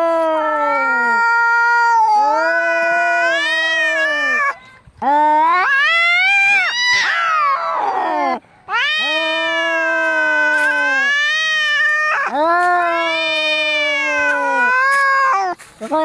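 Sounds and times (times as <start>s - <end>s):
cats screeching and yowling: 0.0s - 16.0s.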